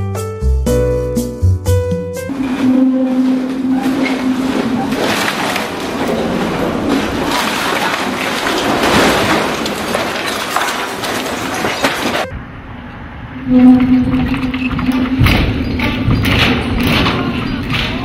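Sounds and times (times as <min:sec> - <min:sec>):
timber building clattering: 0:02.3 - 0:12.3, 0:13.5 - 0:18.0.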